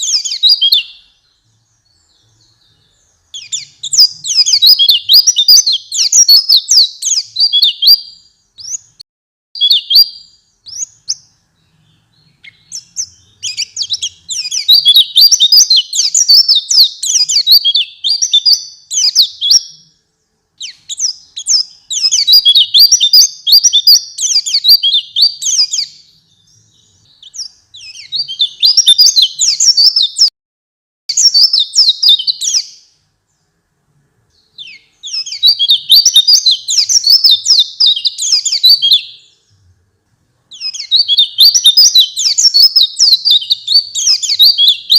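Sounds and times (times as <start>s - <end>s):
bird twittering song: 0.0s - 9.0s, 9.6s - 30.3s, 31.1s - 44.9s.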